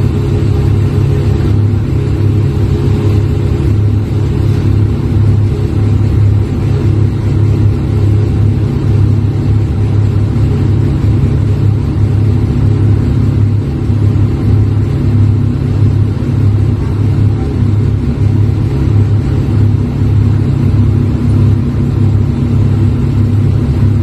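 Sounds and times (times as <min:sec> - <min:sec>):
forklift engine rumbling: 0:00.0 - 0:24.0.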